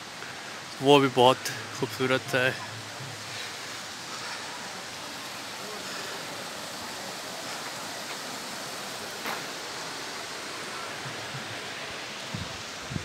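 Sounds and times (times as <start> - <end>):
shallow stream rushing: 0.0 - 13.0.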